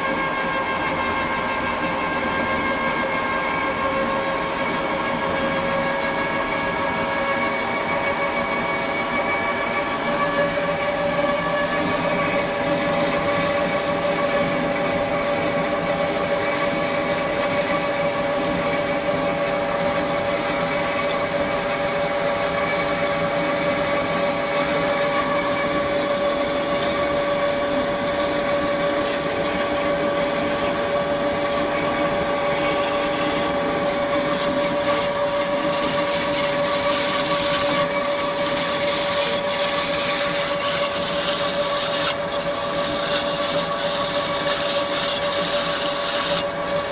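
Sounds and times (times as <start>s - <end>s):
band saw whining: 0.0s - 46.9s.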